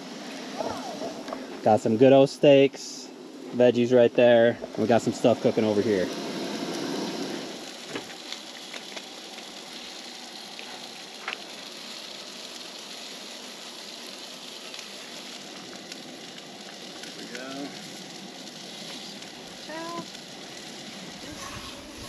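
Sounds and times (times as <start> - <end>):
food sizzling in skillets: 0.0 - 22.0.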